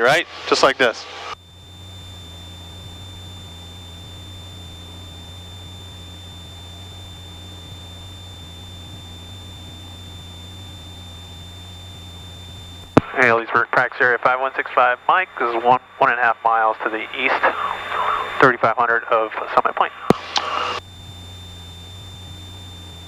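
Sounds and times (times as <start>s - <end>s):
propeller plane engine droning: 0.0s - 23.0s
thin high whine: 0.0s - 23.0s.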